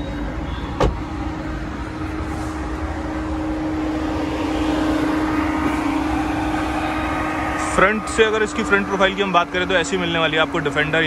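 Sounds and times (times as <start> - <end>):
vehicle engine whirring hum: 0.0 - 11.0.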